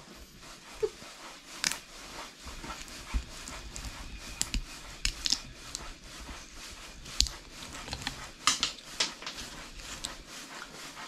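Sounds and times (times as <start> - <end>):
rustling handling noise: 0.0 - 11.0.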